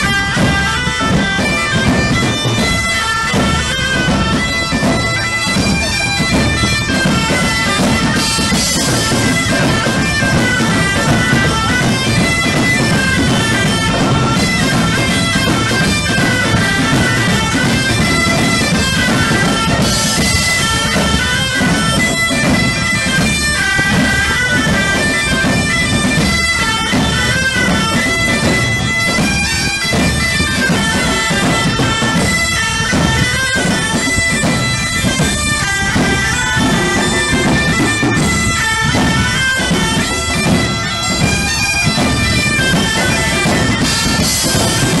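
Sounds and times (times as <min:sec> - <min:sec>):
bagpipes melody: 0:00.0 - 0:45.0.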